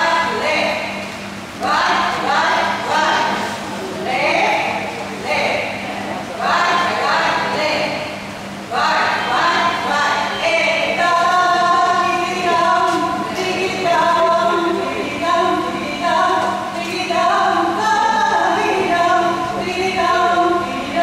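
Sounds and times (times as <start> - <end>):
group singing a cappella: 0.0 - 1.0, 1.6 - 21.0.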